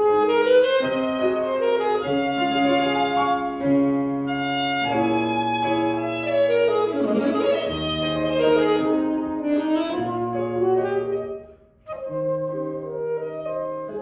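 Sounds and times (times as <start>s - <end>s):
piano accompaniment: 0.0s - 14.0s
saxophone melody: 0.0s - 14.0s.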